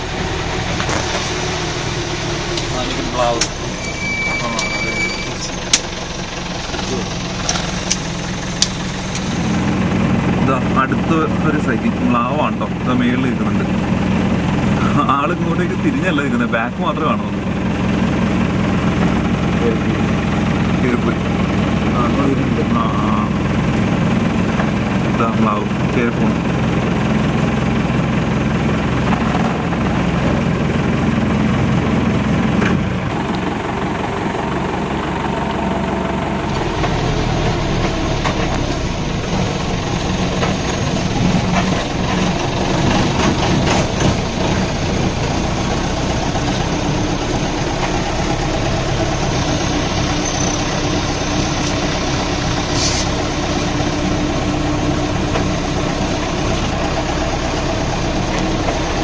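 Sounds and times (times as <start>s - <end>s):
jeep engine running: 0.0s - 59.0s.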